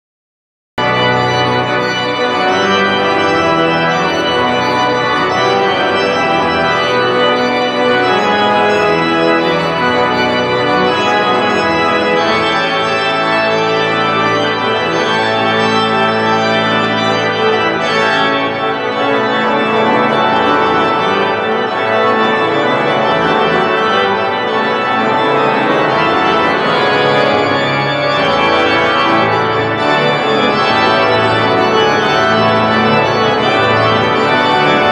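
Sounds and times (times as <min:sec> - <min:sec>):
pipe organ playing loud chords: 0:00.8 - 0:34.9.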